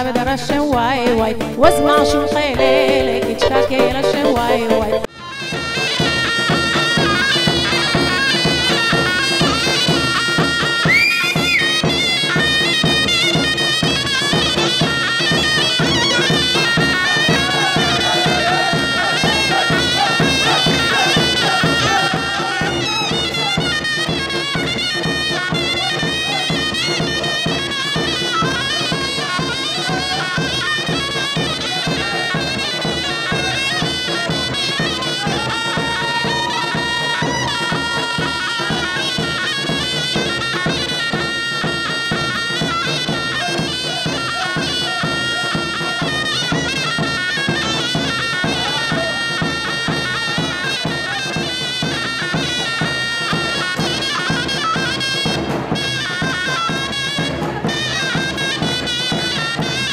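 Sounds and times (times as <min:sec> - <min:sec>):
drum beat: 0:01.5 - 0:05.1, 0:06.6 - 0:59.9
reedy wind instrument melody: 0:01.6 - 0:59.9.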